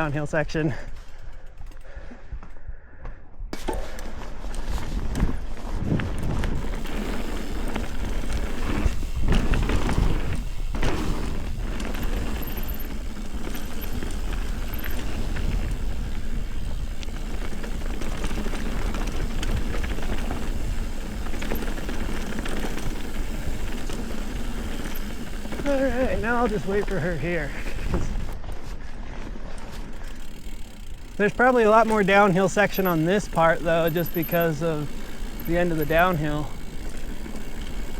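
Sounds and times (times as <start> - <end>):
bike rattling and knocking: 0.0 - 2.3, 3.5 - 37.9
tyres rolling on dirt trail: 0.0 - 37.9.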